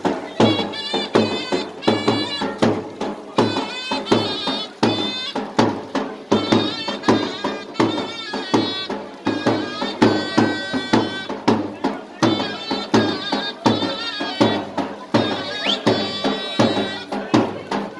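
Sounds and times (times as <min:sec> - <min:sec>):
bass drum beats: 0:00.0 - 0:17.9
shrill double-reed melody: 0:00.4 - 0:17.3.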